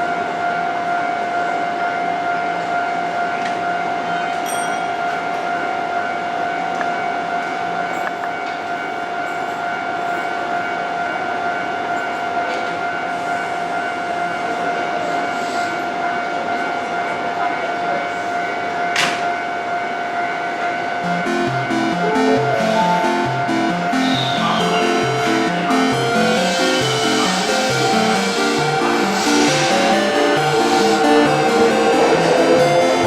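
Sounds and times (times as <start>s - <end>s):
train high whine: 0.0s - 33.0s.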